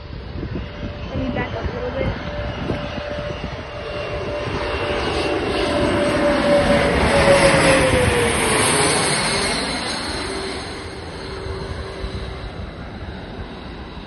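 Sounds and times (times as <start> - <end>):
jet engines passing by: 0.0 - 14.0.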